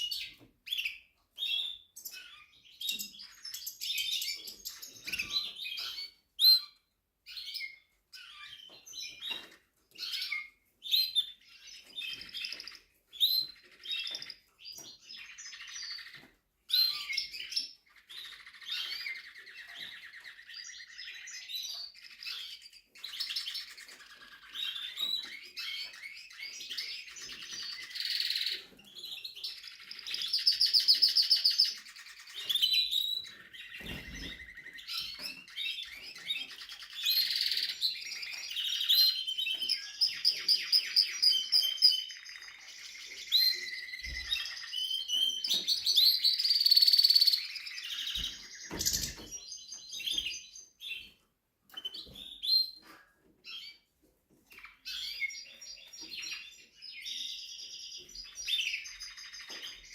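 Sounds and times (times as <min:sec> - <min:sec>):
canary singing trills: 0:00.0 - 0:53.9, 0:54.5 - 0:59.9.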